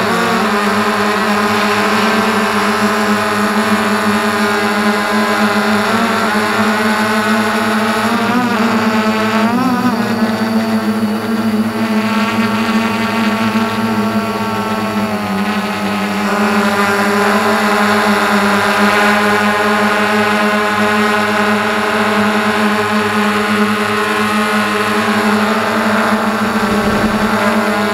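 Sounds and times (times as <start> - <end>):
drone propellers droning: 0.0 - 27.9.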